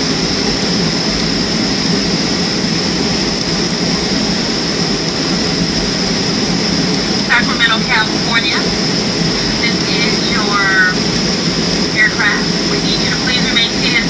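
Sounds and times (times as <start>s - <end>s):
jet engines idling: 0.0s - 14.0s
cabin air-conditioning: 0.3s - 14.0s.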